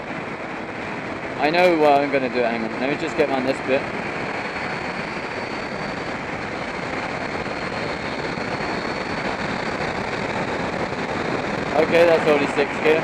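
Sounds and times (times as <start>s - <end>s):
motorcycle road noise: 0.0s - 13.0s
wind rush: 0.0s - 13.0s.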